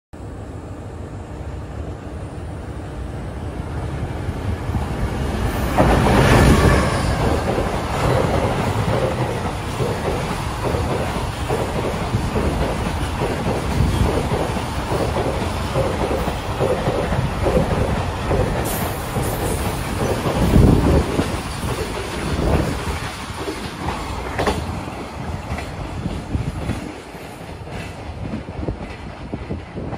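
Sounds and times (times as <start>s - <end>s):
freight train passing: 0.2s - 29.9s.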